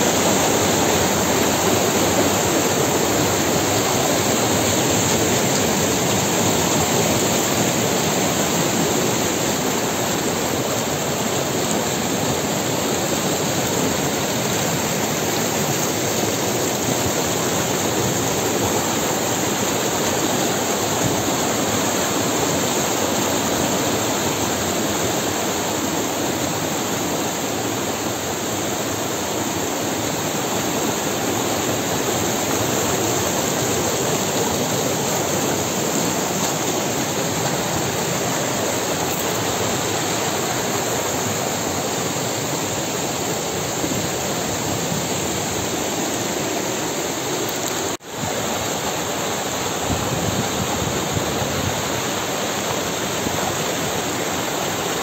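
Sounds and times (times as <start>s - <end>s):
stream rushing over boulders: 0.0s - 55.0s.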